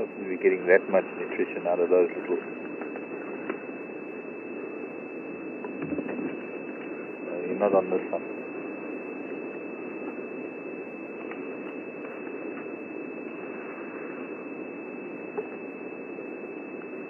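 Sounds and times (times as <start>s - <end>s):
high-pitched whine: 0.0s - 17.0s
static hiss: 0.0s - 17.0s.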